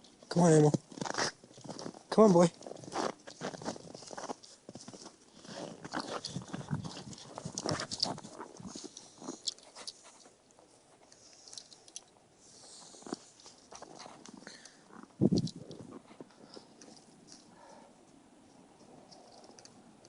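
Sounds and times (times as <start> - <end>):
crunching and rustling: 0.0 - 19.9.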